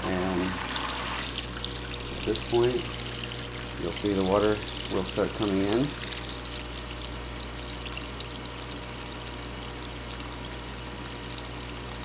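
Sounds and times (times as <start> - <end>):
water pouring into washing machine: 0.0 - 12.0.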